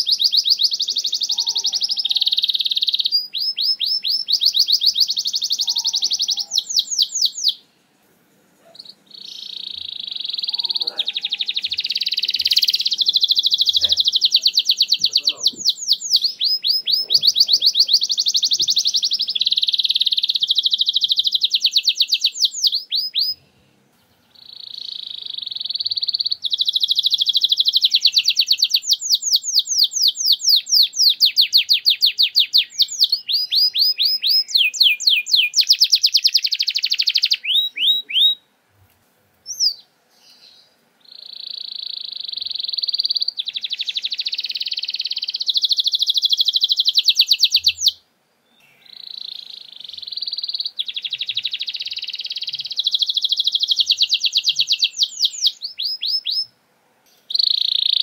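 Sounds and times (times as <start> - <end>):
canary singing trills: 0.0 - 7.7, 8.6 - 38.5, 39.4 - 58.0.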